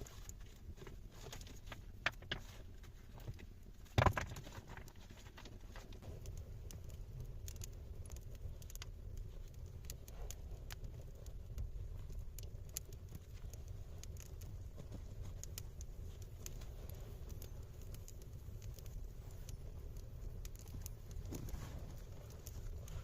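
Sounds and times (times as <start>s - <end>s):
campfire crackling and popping: 0.0s - 23.0s
low rumble of wind: 0.0s - 23.0s.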